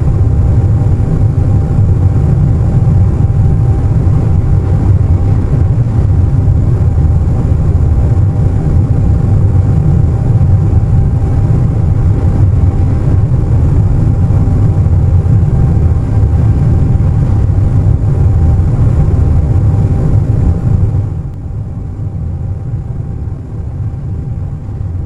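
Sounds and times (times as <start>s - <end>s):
airliner cabin rumble: 0.0s - 25.0s
faint high whine: 0.0s - 25.0s.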